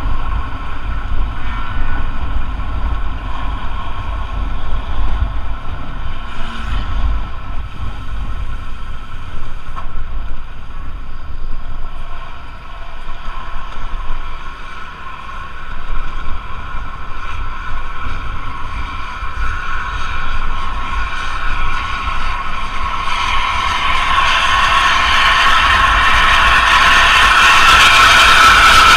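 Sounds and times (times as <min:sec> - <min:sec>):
bus engine whining: 0:00.0 - 0:28.9
wind buffeting microphone: 0:00.0 - 0:28.9.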